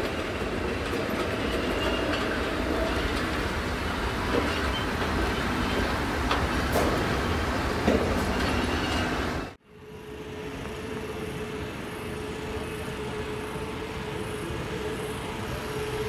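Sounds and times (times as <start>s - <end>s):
electric locomotive rumble: 0.0s - 16.0s.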